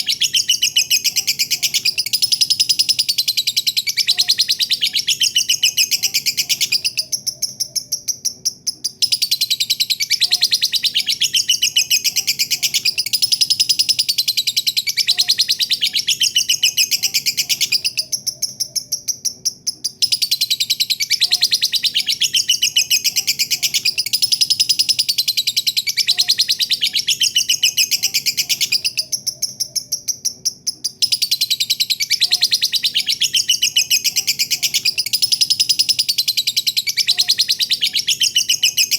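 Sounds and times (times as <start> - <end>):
bird chattering high-pitched: 0.0 - 38.9.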